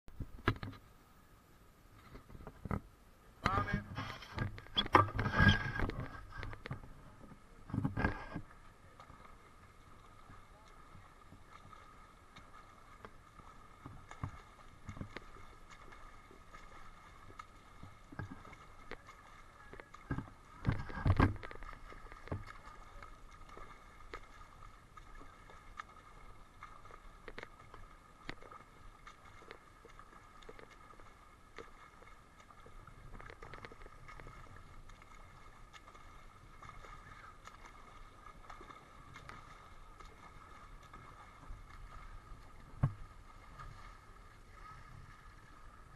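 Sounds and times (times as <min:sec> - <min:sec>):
pool water splashing: 0:00.1 - 0:45.9.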